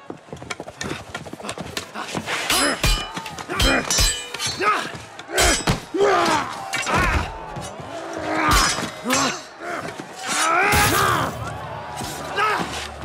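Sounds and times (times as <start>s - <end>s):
fighters grunting and shouting: 0.8s - 13.0s
weapons clashing and thudding: 1.7s - 13.0s.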